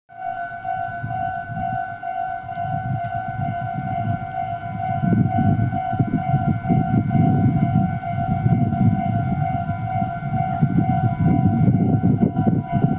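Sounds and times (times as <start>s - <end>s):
level crossing alarm ringing: 0.1s - 12.9s
low rumbling: 0.6s - 12.9s.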